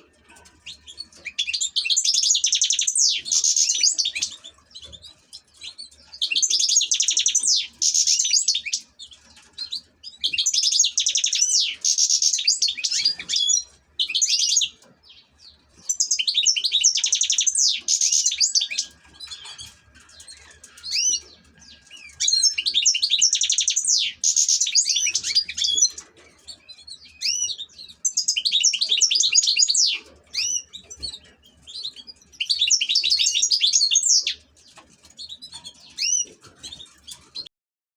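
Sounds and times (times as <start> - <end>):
finch singing: 0.0 - 37.5.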